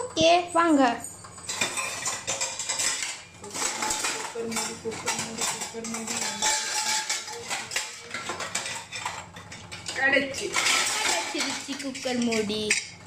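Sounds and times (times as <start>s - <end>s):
metal pots and utensils clinking: 0.8s - 13.0s.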